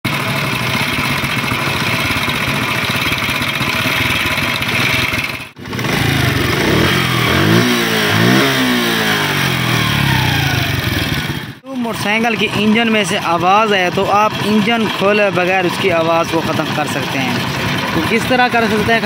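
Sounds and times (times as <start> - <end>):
motorcycle engine running and revving: 0.1 - 19.0.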